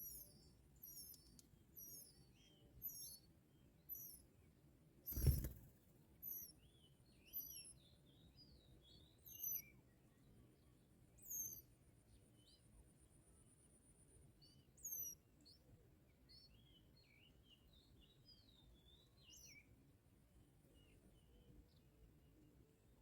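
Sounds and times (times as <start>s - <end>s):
small birds chirping: 0.0s - 13.4s, 14.0s - 19.8s, 20.6s - 23.0s.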